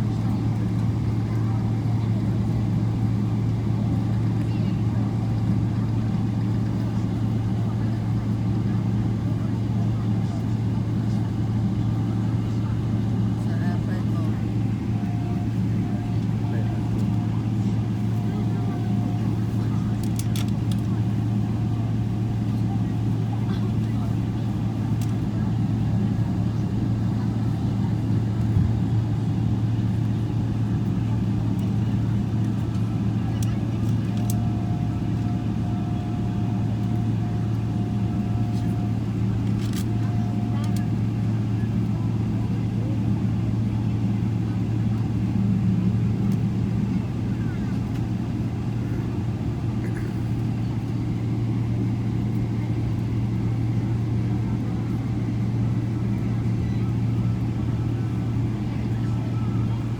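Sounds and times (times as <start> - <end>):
jet engines low drone: 0.0 - 59.9.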